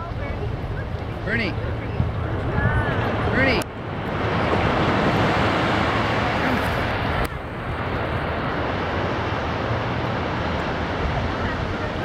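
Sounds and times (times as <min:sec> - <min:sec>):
breaking surf: 0:00.0 - 0:12.0
wind rumble on microphone: 0:00.0 - 0:12.0.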